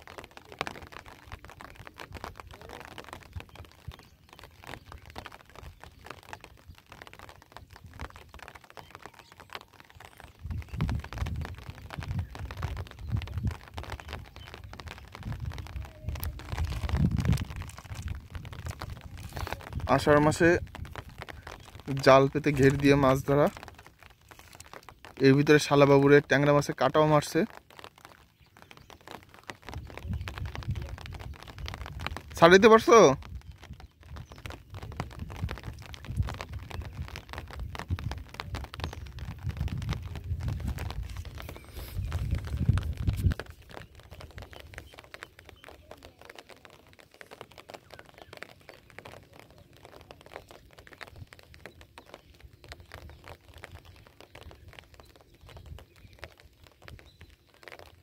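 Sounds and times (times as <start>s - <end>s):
wind buffeting microphone: 0.0s - 26.3s, 28.2s - 58.0s
light rain ticks: 0.0s - 58.0s.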